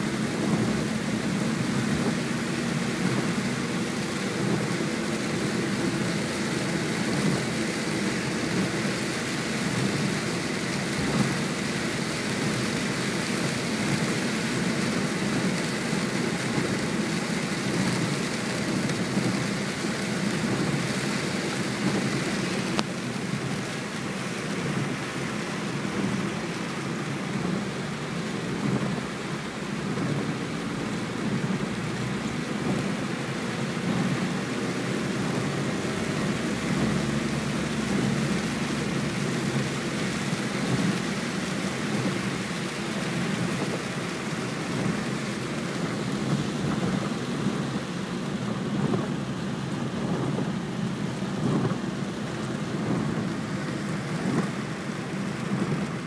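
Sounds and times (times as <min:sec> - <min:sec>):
heavy rain on car roof: 0:00.0 - 0:56.0
tyres rumbling on wet road: 0:00.0 - 0:56.0.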